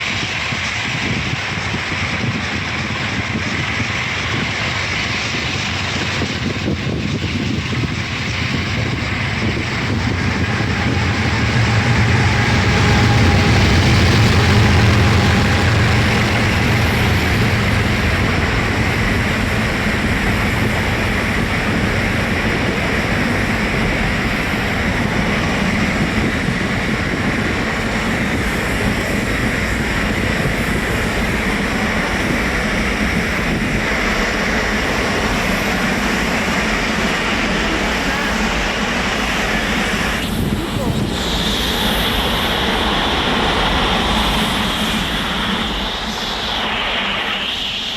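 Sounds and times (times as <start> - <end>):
train passing with deep rumble: 0.0 - 47.9.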